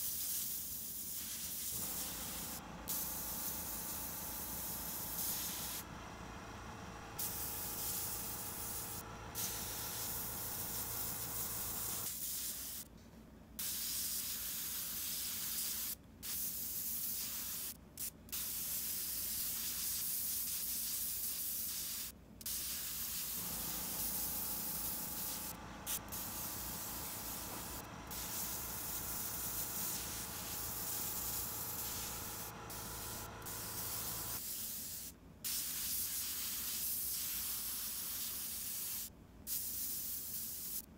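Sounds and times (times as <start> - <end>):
airbrush spraying hiss: 0.0 - 5.9, 7.2 - 12.9, 13.6 - 40.9.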